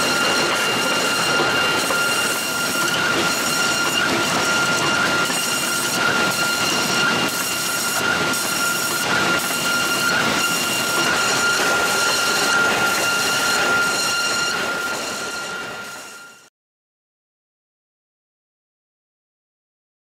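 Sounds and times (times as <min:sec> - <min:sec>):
planer machining timber: 0:00.0 - 0:16.3.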